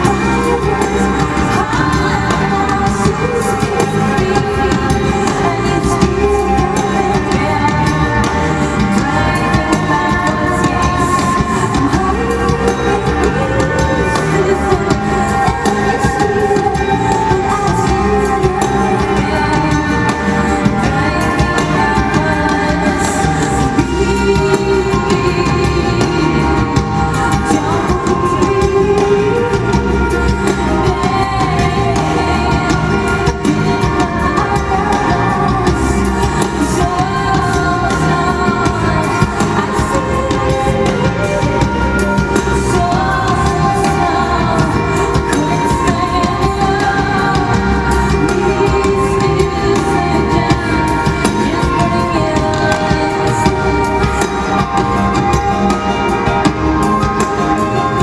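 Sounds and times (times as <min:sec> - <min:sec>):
drum kit: 0:00.0 - 0:58.0
electric guitar: 0:00.0 - 0:58.0
rock band playing: 0:00.0 - 0:58.0
woman singing: 0:00.0 - 0:58.0.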